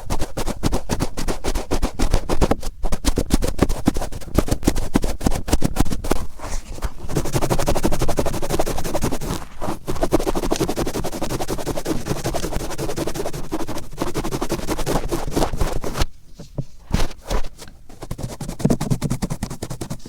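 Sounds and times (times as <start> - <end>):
cotton swab scratching in ear: 0.0 - 16.1, 17.0 - 20.0.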